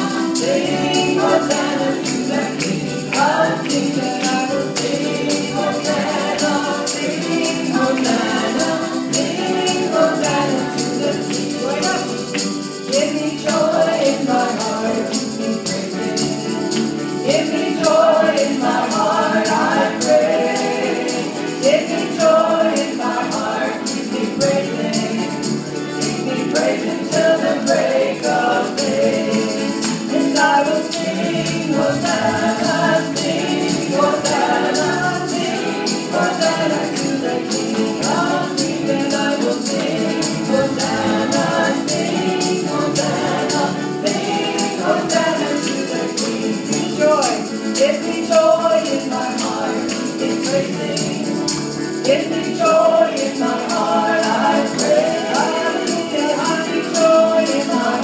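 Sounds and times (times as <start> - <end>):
group of voices singing: 0.0 - 58.0
piano accompaniment: 0.0 - 58.0
rhythmic percussion beat: 0.0 - 58.0.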